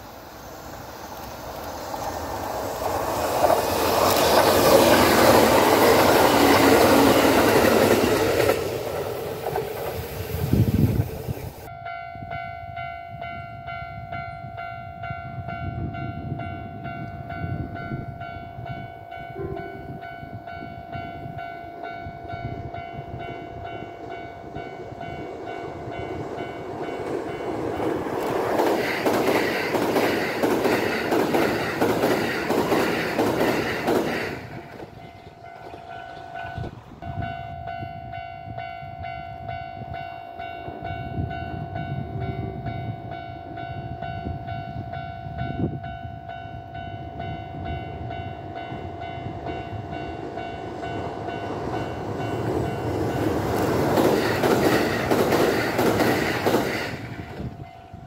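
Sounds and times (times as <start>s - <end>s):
electric train rushing past: 0.0s - 58.0s
train rumbling past: 0.0s - 58.0s.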